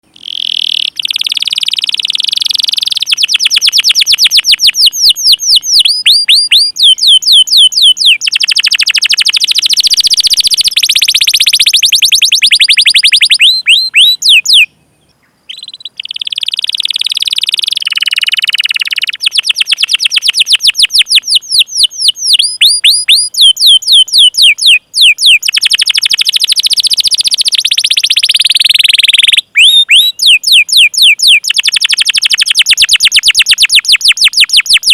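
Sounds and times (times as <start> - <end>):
canary singing: 0.0 - 34.9.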